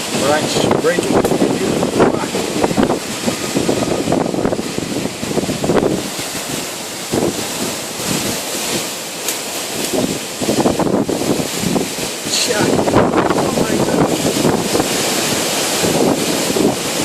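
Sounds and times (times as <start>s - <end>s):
strong wind gusting: 0.0s - 17.0s.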